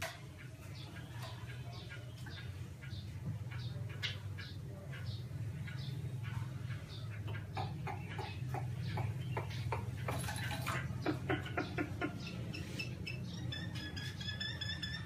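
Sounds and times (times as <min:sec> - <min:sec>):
bird calling: 0:00.7 - 0:15.0.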